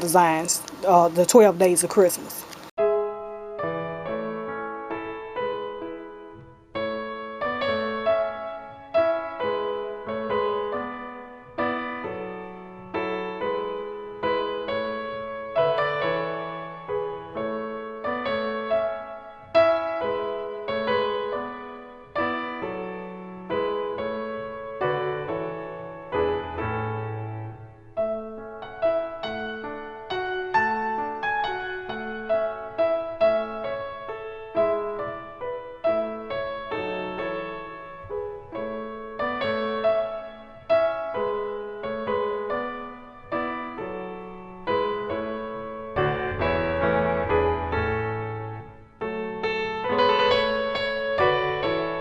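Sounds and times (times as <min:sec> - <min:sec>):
slow piano melody: 0:00.0 - 0:52.0.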